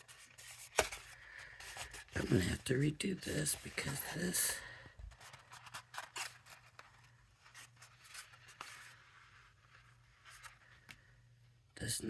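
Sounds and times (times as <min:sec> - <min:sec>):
paper rustling: 0:00.0 - 0:11.2.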